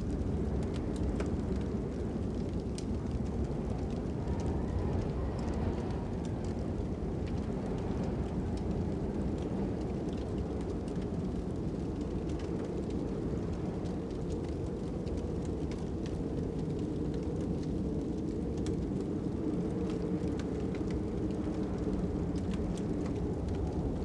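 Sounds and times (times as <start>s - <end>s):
low wind rumble: 0.0s - 24.0s
wood fire crackling: 0.0s - 24.0s.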